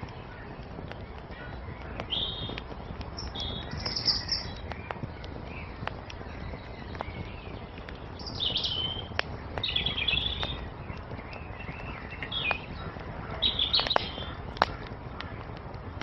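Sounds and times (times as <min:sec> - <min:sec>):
songbirds chirping: 0:00.0 - 0:16.0
wood fire crackling: 0:00.0 - 0:16.0.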